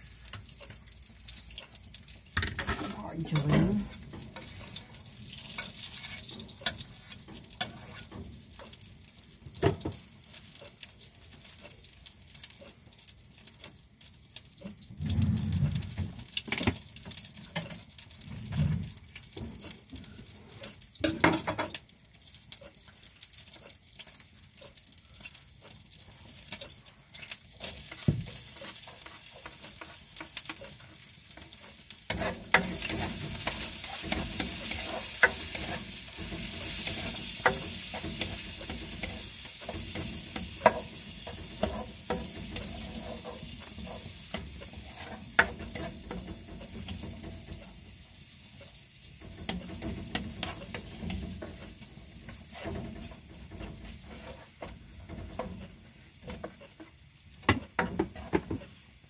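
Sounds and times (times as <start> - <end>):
oil sizzling in a wok: 0.0 - 59.0
spatula stirring in a pan: 0.0 - 59.0.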